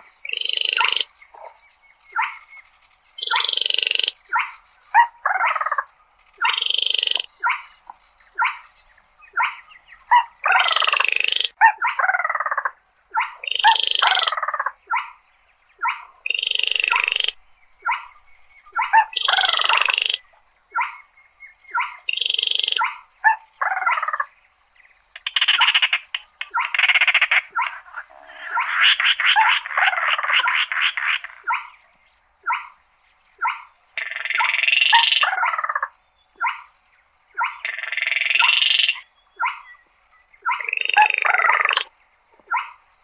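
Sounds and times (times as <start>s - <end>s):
bird dry rattling calls: 0.0s - 15.2s, 15.8s - 21.1s, 21.7s - 24.3s, 25.1s - 31.8s, 32.4s - 36.7s, 37.4s - 39.8s, 40.4s - 42.8s.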